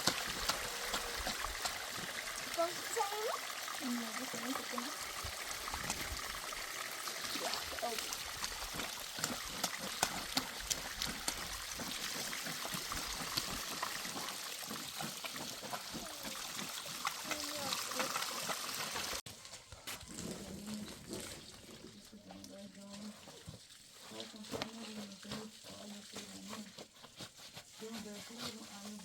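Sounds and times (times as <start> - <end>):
water trickling and pouring: 0.0 - 19.2, 20.0 - 26.7.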